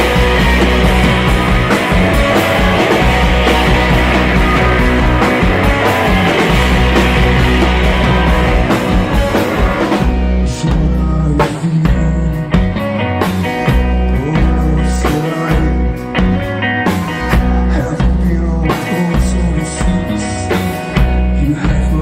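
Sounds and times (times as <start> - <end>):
rock band playing loudly: 0.0 - 22.0.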